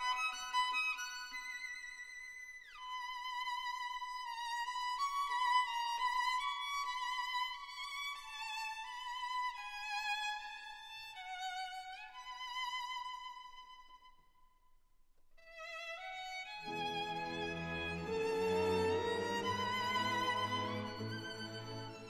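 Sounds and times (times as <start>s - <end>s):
solo violin melody with vibrato: 0.0s - 14.0s, 15.4s - 22.0s.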